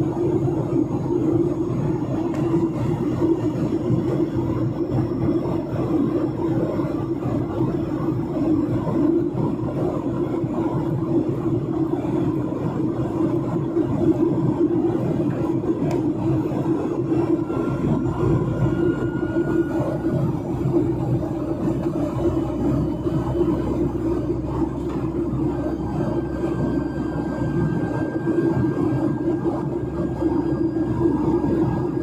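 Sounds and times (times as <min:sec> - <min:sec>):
jet engines humming: 0:00.0 - 0:32.0.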